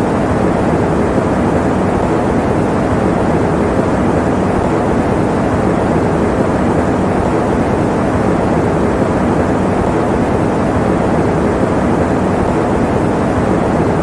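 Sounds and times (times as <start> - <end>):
electric fan hiss: 0.0 - 14.0.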